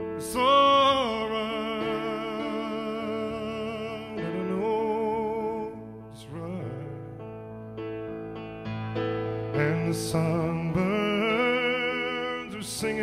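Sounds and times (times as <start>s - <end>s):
man singing with vibrato: 0.0s - 7.2s, 9.6s - 13.0s
keyboard: 0.0s - 13.0s.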